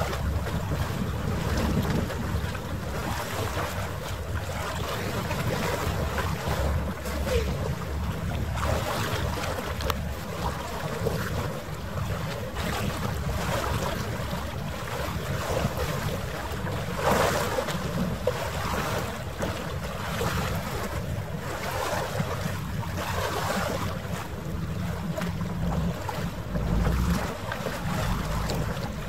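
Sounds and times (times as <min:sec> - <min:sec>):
small waves lapping: 0:00.0 - 0:29.0
wind buffeting microphone: 0:00.0 - 0:29.0.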